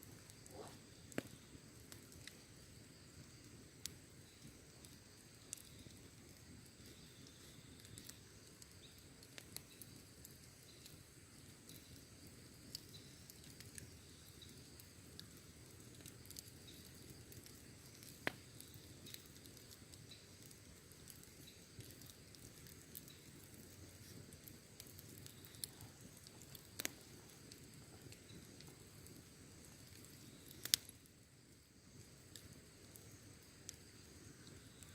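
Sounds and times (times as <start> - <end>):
campfire crackling: 0.0 - 34.9
fire snap: 0.0 - 34.9
low steady hiss: 0.0 - 34.9.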